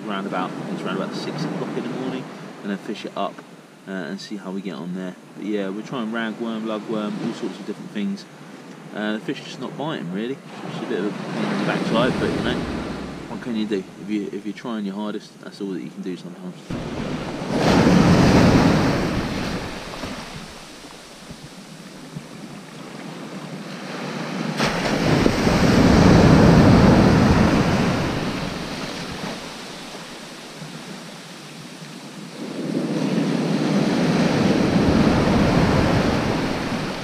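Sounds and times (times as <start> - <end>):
waves breaking on sandy beach: 0.0 - 14.6, 16.5 - 37.0.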